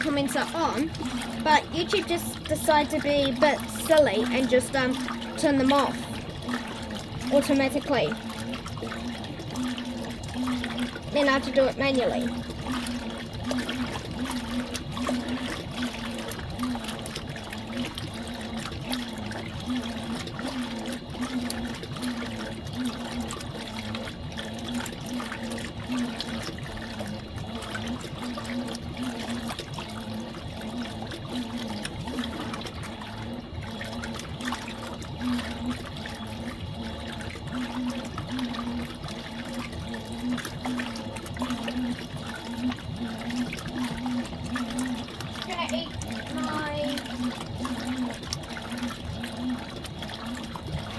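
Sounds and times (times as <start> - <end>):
washing machine motor hum: 0.0 - 50.9
water sloshing in washing machine: 0.0 - 50.9.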